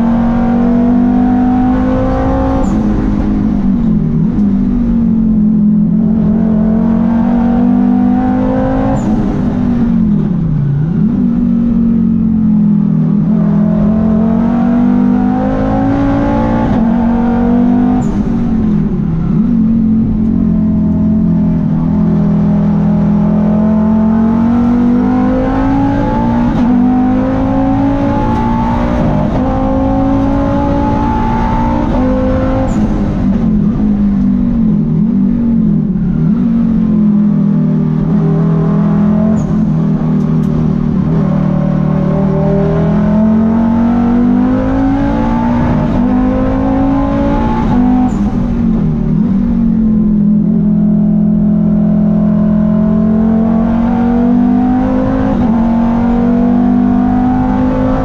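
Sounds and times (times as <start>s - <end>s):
racing car engine under hard throttle: 0.0s - 58.0s.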